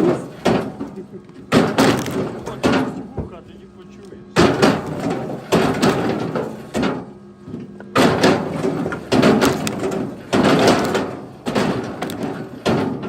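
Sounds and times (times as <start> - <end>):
firewood knocking and clattering: 0.0 - 3.4, 4.4 - 13.0.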